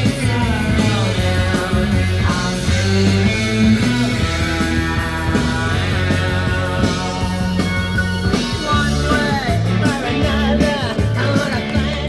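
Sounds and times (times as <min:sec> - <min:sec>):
rock music in a car: 0:00.0 - 0:12.0.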